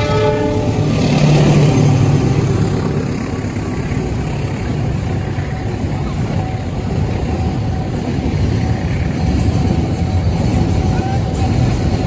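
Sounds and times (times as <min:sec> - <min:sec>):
diesel locomotive engine: 0:00.0 - 0:12.0
train cars rumbling over rails: 0:00.0 - 0:12.0.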